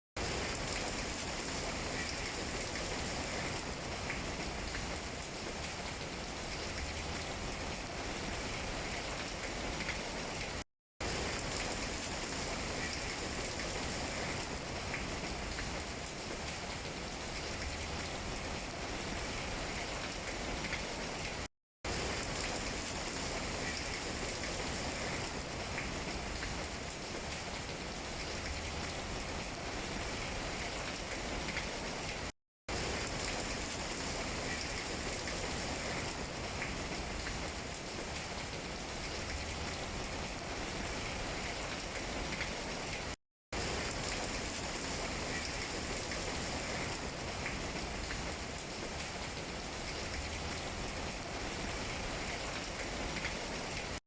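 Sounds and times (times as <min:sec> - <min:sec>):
rain on tree leaves: 0:00.2 - 0:54.0.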